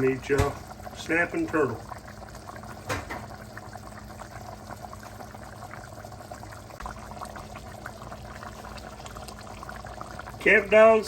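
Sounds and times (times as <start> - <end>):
pot simmering with bubbling pops: 0.0 - 11.0.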